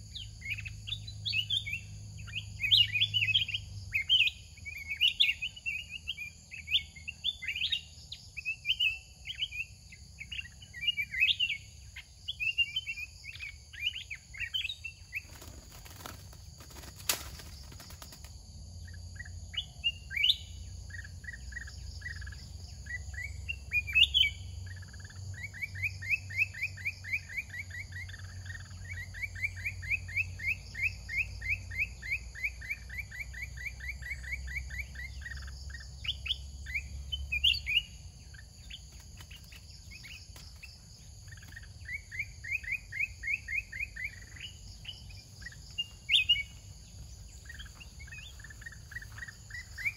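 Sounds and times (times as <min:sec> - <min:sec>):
birds chirping: 0:00.0 - 0:49.9
rustle: 0:00.0 - 0:49.9.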